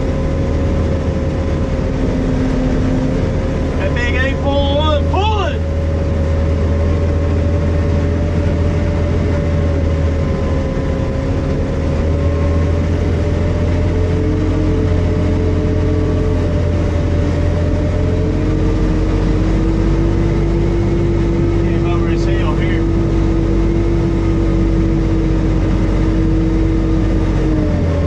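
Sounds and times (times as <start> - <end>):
diesel engine droning: 0.0 - 28.0.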